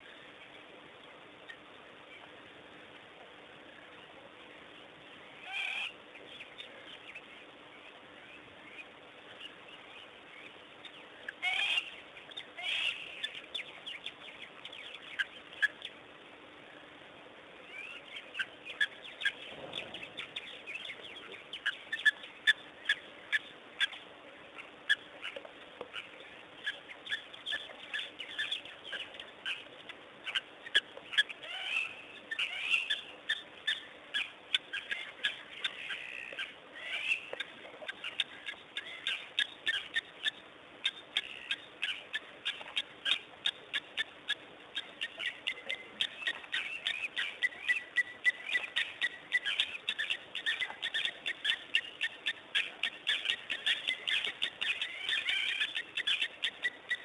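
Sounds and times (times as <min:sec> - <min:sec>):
wild birds chirping: 0:00.0 - 0:57.0.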